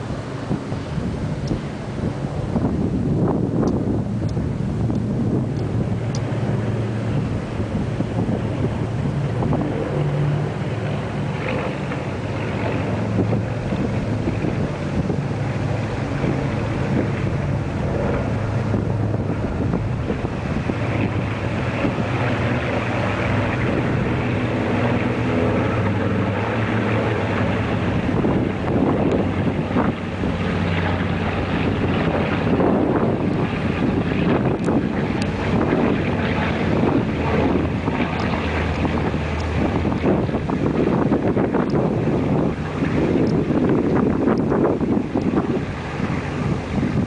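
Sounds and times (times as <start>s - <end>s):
propeller planes flying overhead: 0.0s - 47.0s
wind buffeting microphone: 0.0s - 47.0s.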